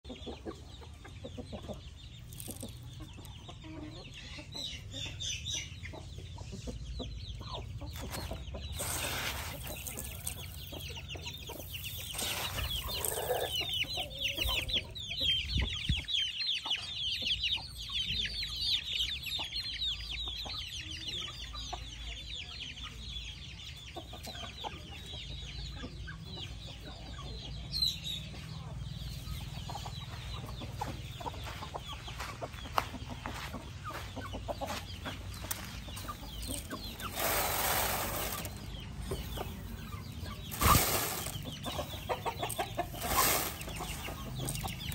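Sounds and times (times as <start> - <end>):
chickens clucking and calling: 0.0 - 44.9.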